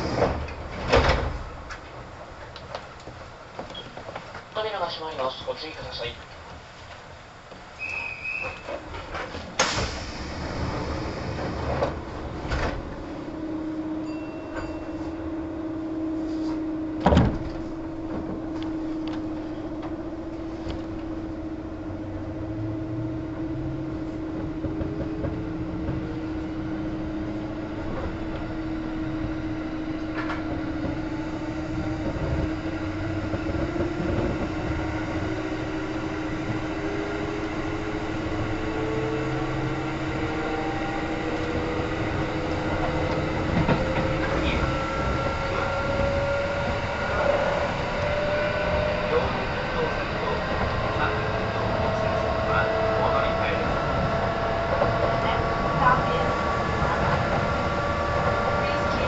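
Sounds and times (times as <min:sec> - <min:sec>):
train hum: 0:00.0 - 0:59.0
train motor whine rising: 0:09.6 - 0:59.0.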